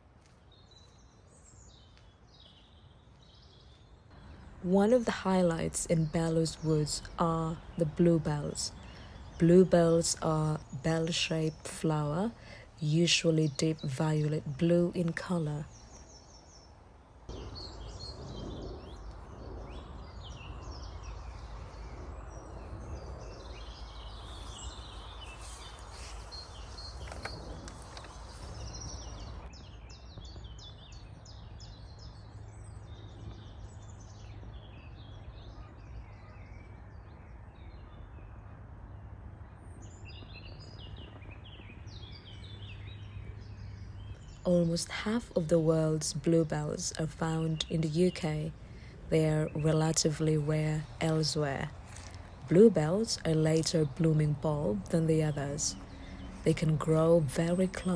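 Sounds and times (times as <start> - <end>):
birds singing and chirping: 4.9 - 38.5, 39.6 - 57.9.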